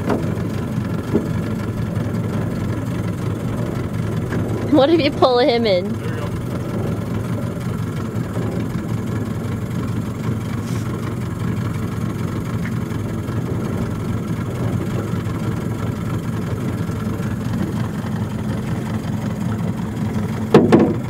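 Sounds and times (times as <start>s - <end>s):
motorboat engine droning: 0.0s - 21.0s.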